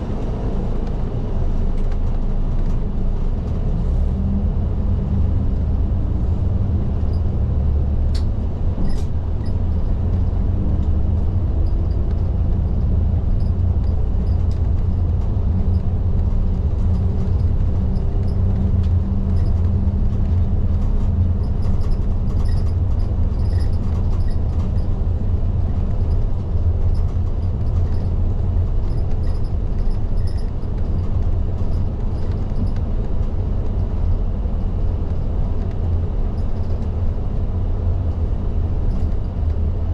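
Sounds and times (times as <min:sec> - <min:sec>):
bus engine drone: 0:00.0 - 0:39.9
road rumble: 0:00.0 - 0:39.9.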